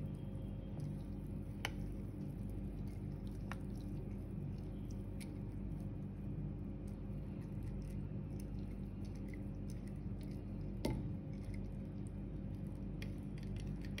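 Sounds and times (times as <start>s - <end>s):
steady low hum: 0.0s - 14.0s
spoon stirring oats wet squishing: 0.6s - 14.0s.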